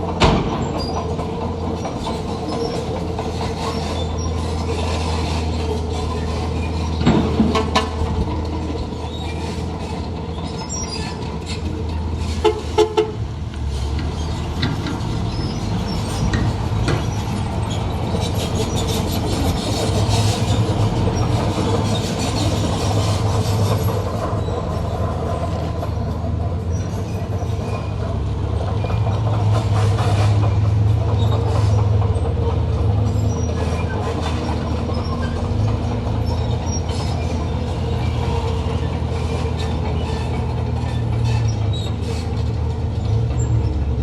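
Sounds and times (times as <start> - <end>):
diesel machinery engine running: 0.0 - 44.0.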